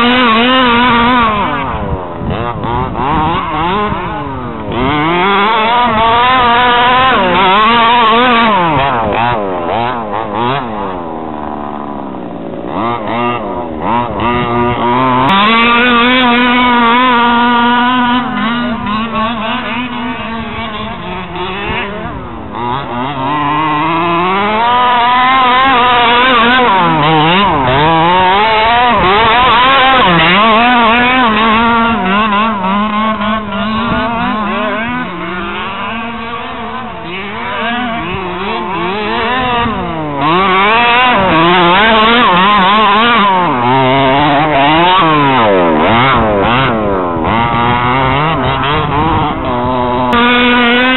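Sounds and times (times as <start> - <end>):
small two-stroke engine revving: 0.0 - 50.9.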